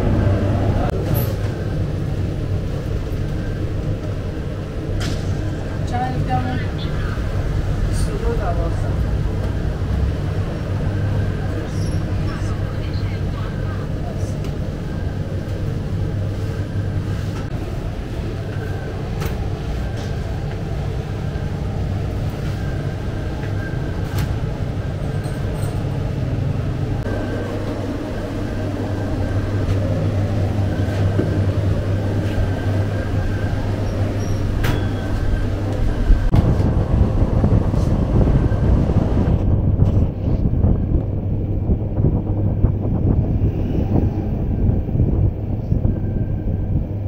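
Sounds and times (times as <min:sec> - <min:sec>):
bakery machinery humming: 0:00.0 - 0:47.0.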